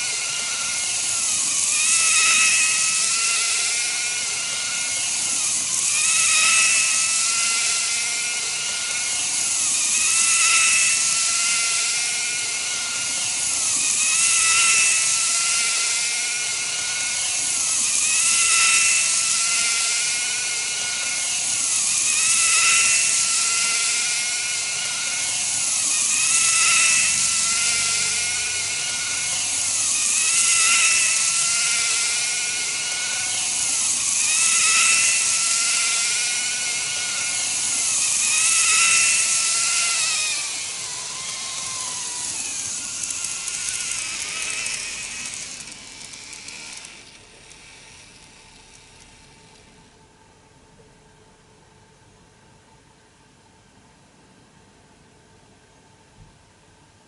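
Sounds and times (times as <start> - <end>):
model train motor whining: 0.0 - 49.8.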